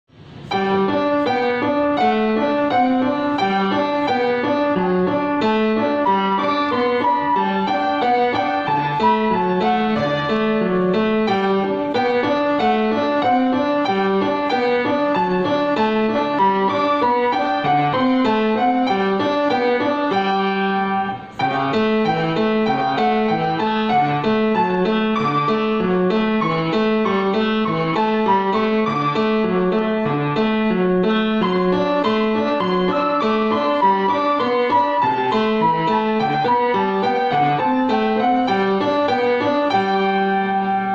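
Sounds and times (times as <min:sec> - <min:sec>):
grand piano playing: 0:00.1 - 0:40.9.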